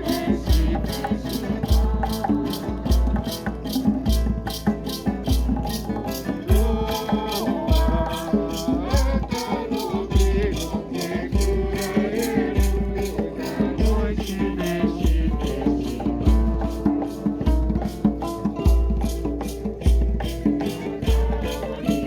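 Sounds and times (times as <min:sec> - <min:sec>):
group singing a hymn: 0:00.0 - 0:22.0
instrumental accompaniment: 0:00.0 - 0:22.0
maracas shaking: 0:00.0 - 0:22.0.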